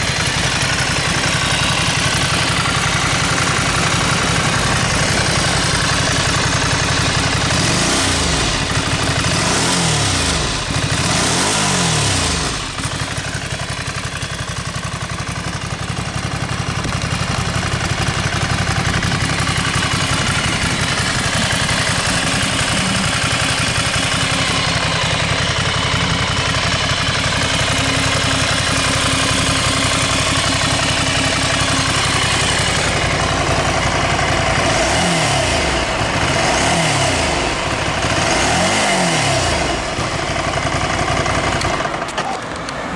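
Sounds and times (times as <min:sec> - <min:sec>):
motorcycle engine throttle blips: 0:00.0 - 0:09.3, 0:12.1 - 0:38.2
motorcycle engine idling: 0:00.0 - 0:42.9.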